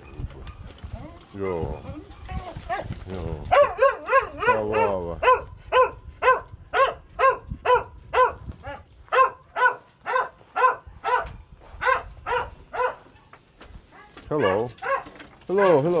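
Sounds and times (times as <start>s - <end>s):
dog whining cry: 0.9s - 13.0s, 14.0s - 15.8s
dog barking: 1.4s - 15.9s.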